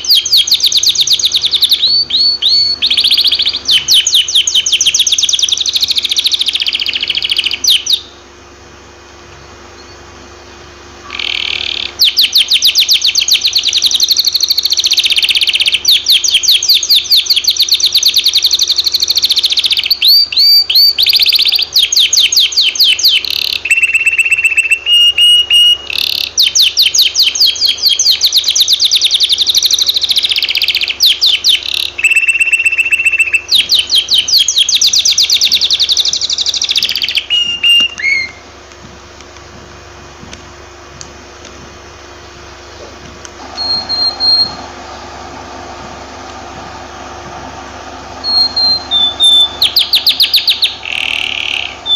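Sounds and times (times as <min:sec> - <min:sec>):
canary singing trills: 0:00.0 - 0:08.3, 0:09.2 - 0:38.6, 0:41.8 - 0:51.9.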